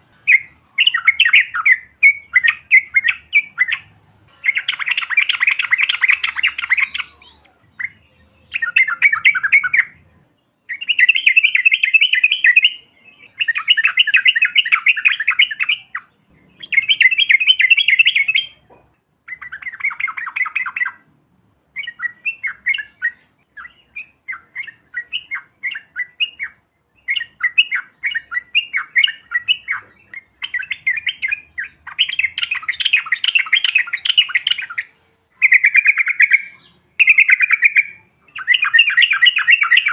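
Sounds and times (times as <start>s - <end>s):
birds singing trilled phrases: 0.0s - 39.9s.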